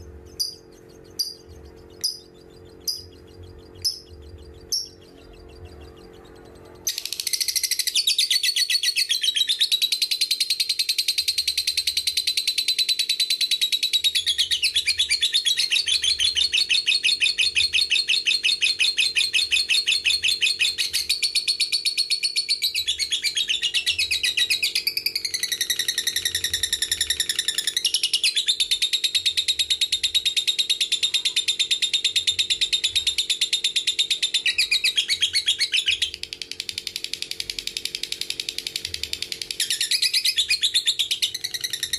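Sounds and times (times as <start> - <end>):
bird chattering trill: 0.3 - 41.9.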